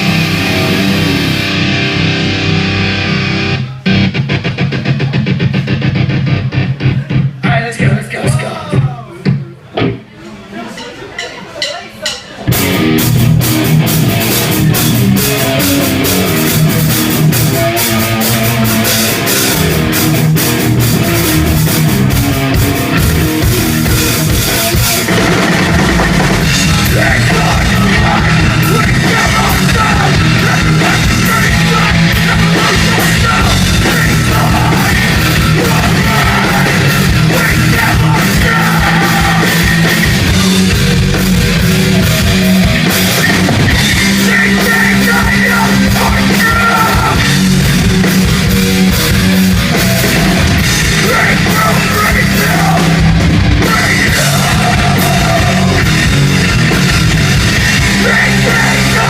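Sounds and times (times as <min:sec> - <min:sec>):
heavy rock band playing: 0:00.0 - 0:10.0, 0:11.2 - 0:59.0
distorted guitars: 0:00.0 - 0:10.1, 0:10.8 - 0:59.0
pounding drum kit: 0:00.0 - 0:10.1, 0:11.2 - 0:59.0.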